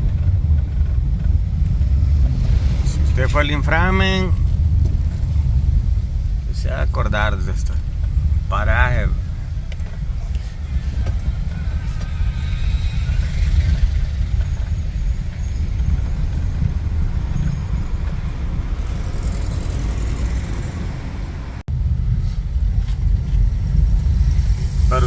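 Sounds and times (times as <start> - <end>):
city street traffic: 0.0 - 25.0
wind buffeting microphone: 0.0 - 25.0.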